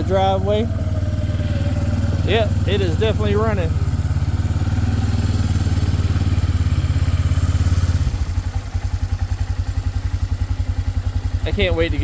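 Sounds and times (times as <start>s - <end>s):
small vehicle engine pulsing: 0.0s - 12.0s.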